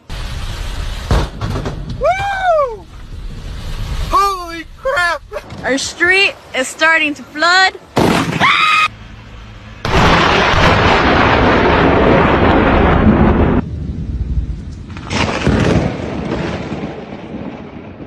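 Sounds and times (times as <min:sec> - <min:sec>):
thunder rumbling: 0:00.0 - 0:06.6, 0:09.8 - 0:18.0.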